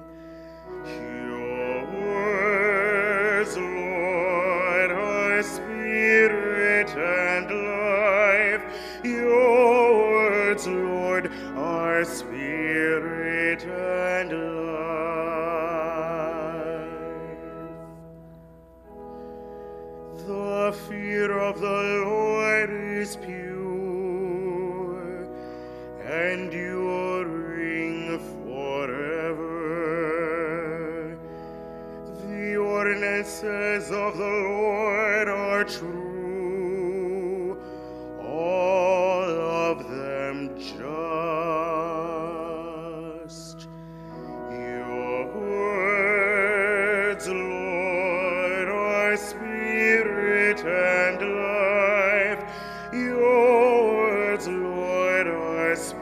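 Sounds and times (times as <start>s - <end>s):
person singing with vibrato: 0.0s - 18.0s, 20.1s - 56.0s
organ-like chords: 0.0s - 56.0s.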